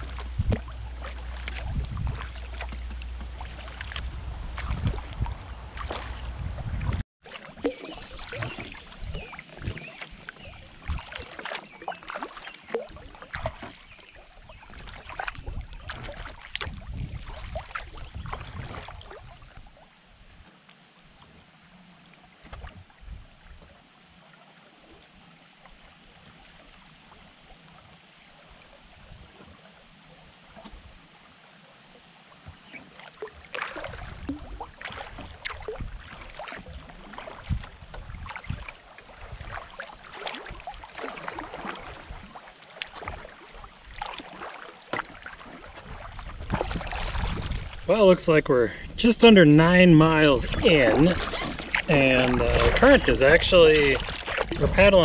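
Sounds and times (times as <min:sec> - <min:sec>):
gentle water: 0:00.0 - 0:55.0
paddle strokes splashing: 0:00.0 - 0:55.0.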